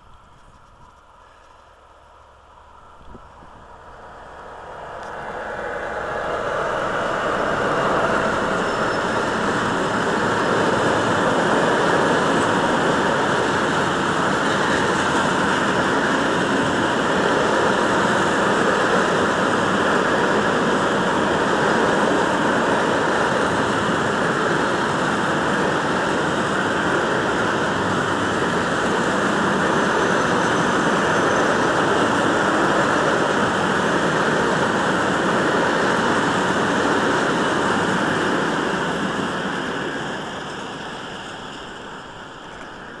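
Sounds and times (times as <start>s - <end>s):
freight train wheels on rails: 0.0s - 43.0s.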